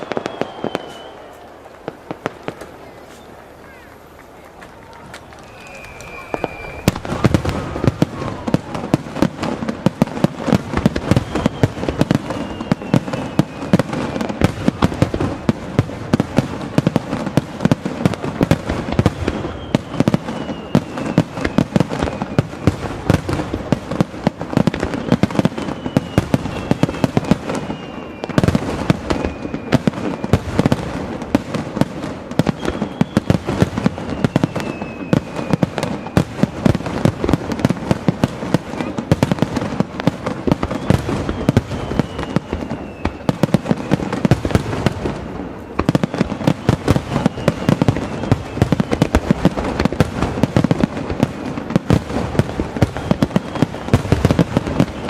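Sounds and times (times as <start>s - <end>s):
falling firework whistles: 0.0s - 3.9s, 5.1s - 55.0s
fireworks bursting: 0.0s - 55.0s.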